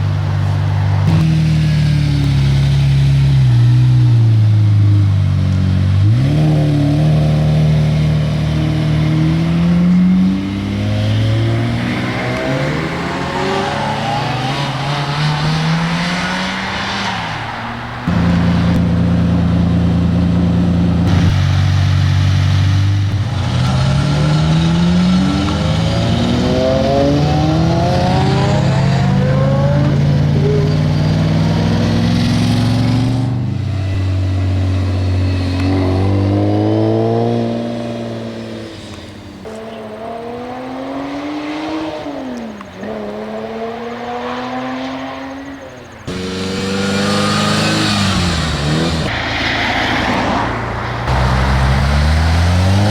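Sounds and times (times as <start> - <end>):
car engines revving and accelerating: 0.0 - 52.9.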